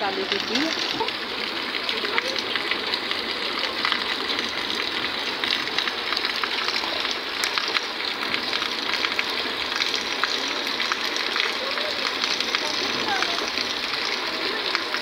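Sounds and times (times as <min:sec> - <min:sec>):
heavy rain on wet ground: 0:00.0 - 0:15.0.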